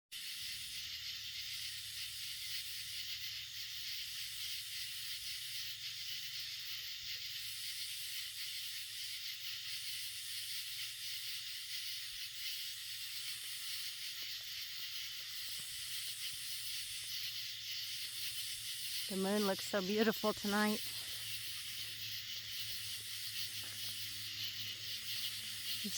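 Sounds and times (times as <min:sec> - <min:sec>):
chorus of night insects: 0:00.1 - 0:25.9.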